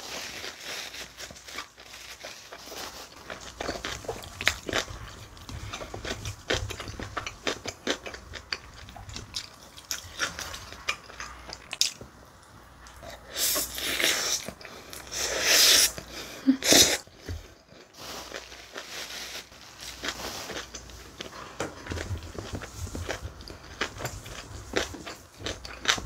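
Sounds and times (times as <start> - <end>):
person chewing food: 0.1 - 26.0.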